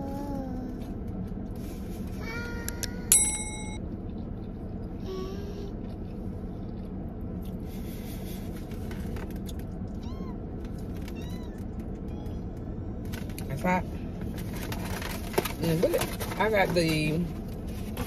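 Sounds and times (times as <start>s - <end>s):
car cabin rumble: 0.0s - 18.0s.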